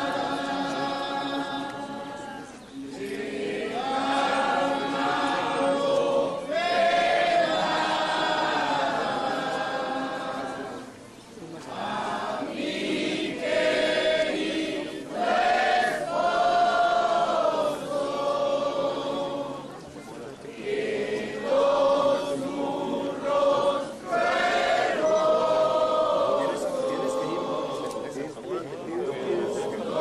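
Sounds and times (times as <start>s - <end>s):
group singing a hymn: 0.0s - 30.0s.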